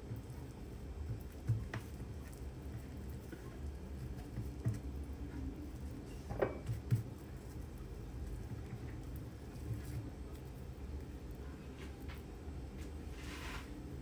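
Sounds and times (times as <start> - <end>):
hands working pastry: 0.0 - 14.0.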